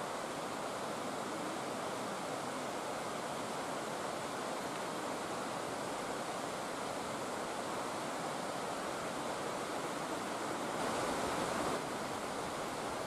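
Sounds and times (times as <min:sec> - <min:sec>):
open air rushing noise: 0:00.0 - 0:13.0.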